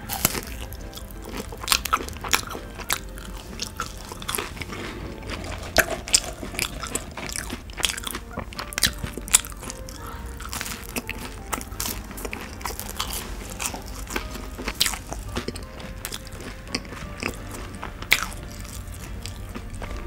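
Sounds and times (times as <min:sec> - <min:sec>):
bite into french fry: 0:00.0 - 0:20.0
crunchy chewing: 0:00.0 - 0:20.0.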